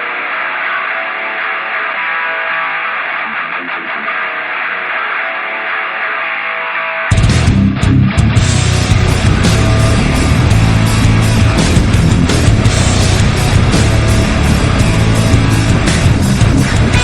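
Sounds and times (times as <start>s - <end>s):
heavy rock band: 0.0s - 17.0s
strummed guitar: 0.0s - 17.0s.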